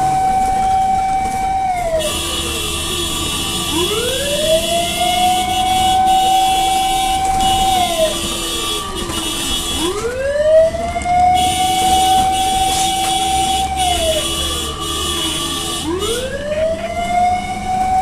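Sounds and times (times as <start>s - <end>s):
fire truck siren wailing: 0.0s - 18.0s.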